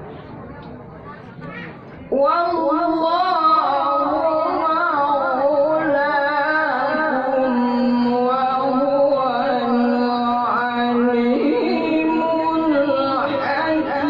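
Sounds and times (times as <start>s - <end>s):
person chanting recitation: 2.1s - 14.0s.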